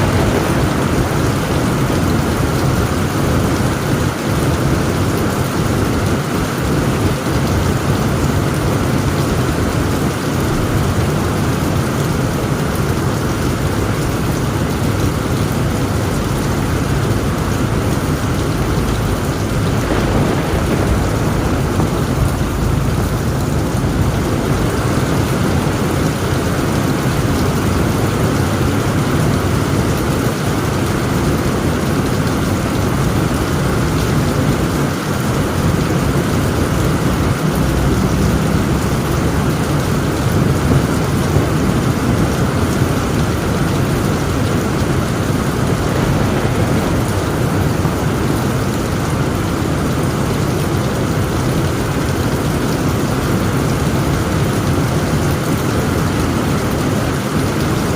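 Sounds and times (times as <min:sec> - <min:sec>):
low thunder rumble: 0:00.0 - 0:57.1
heavy rain on a tent roof: 0:00.0 - 0:57.9.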